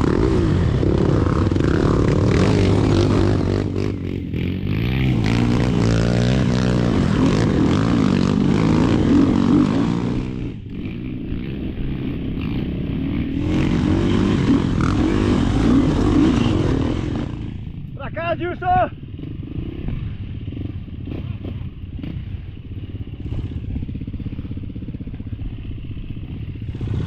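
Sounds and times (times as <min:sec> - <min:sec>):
dirt bike engine revving: 0:00.0 - 0:17.9, 0:18.9 - 0:27.0.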